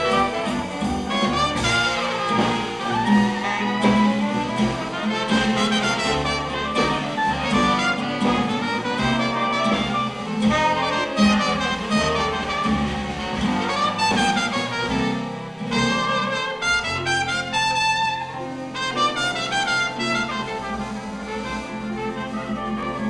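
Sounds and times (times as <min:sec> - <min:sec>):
jazz band playing: 0:00.0 - 0:23.0
trumpet: 0:00.0 - 0:23.0.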